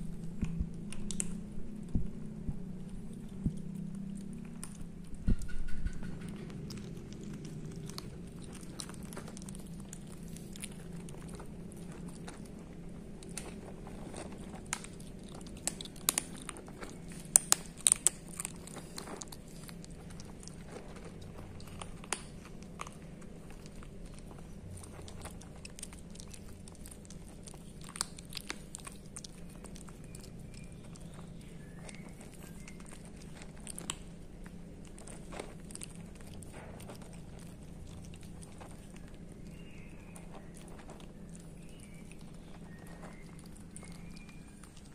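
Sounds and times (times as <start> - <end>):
kittens crunching dry kibble: 0.0 - 44.9.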